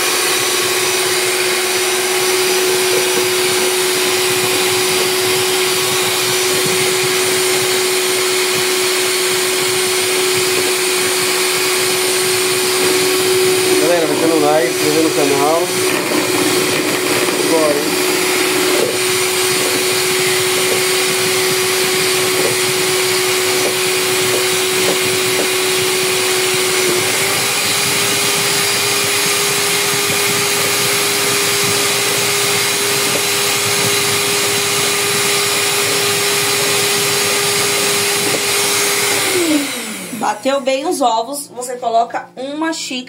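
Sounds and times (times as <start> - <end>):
electric stand mixer running: 0.0 - 40.8
mixer motor winding down: 0.0 - 40.8.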